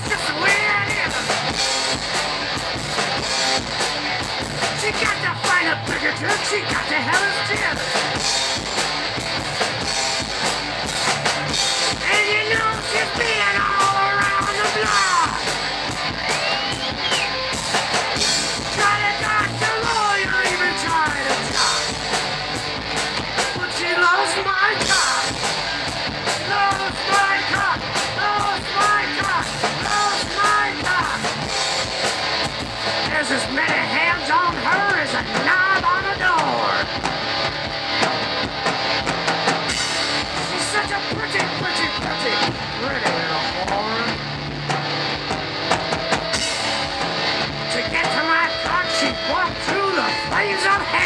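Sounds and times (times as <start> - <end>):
bending lead guitar line: 0.0 - 51.0
distorted electric guitars: 0.0 - 51.0
drum kit beat: 0.0 - 51.0.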